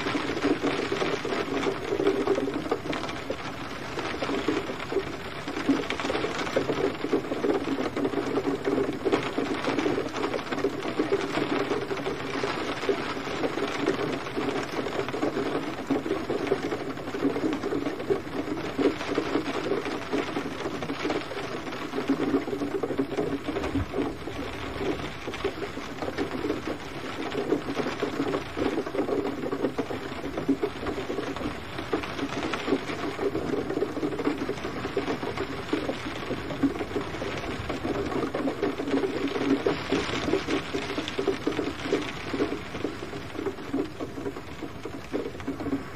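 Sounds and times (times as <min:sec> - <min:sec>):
gentle rain patter: 0:00.0 - 0:45.9.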